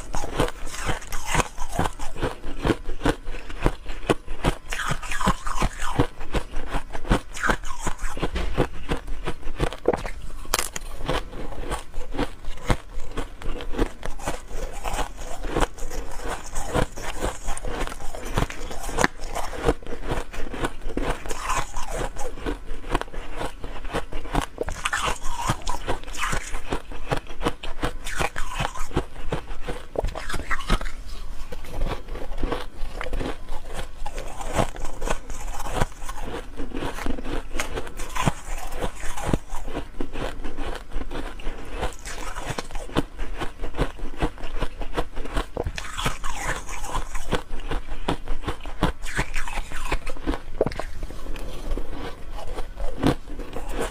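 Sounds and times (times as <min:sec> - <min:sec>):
person chewing ice cubes: 0:00.0 - 0:53.9.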